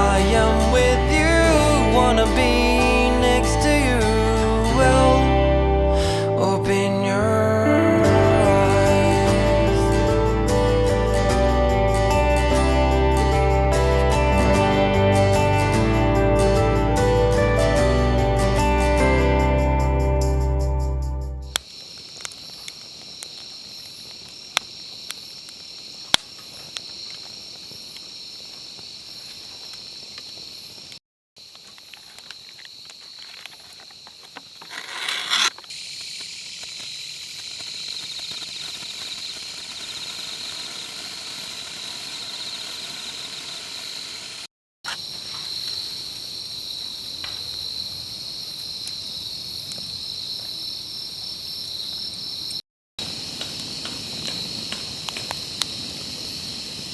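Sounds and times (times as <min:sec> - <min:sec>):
insects chirring: 0:07.8 - 0:20.9, 0:21.5 - 0:56.9.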